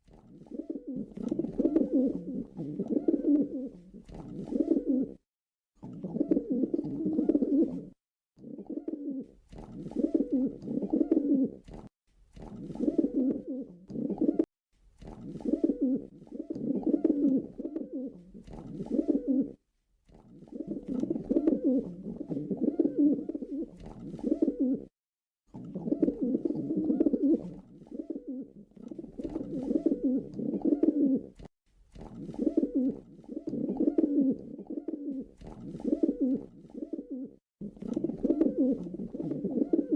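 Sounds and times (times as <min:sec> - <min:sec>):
pigeon cooing: 0:00.2 - 0:05.2, 0:05.8 - 0:11.7, 0:12.5 - 0:14.5, 0:15.1 - 0:19.6, 0:20.4 - 0:24.9, 0:25.6 - 0:31.4, 0:32.1 - 0:39.9.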